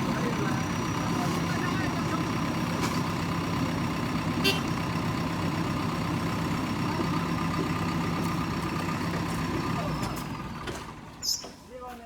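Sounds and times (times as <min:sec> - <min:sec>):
heavy diesel engine running: 0:00.0 - 0:11.2.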